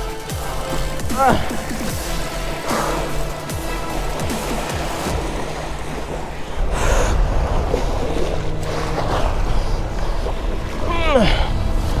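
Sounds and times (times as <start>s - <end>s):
waves breaking on a beach: 0.0s - 12.0s
wind buffeting microphone: 0.0s - 12.0s.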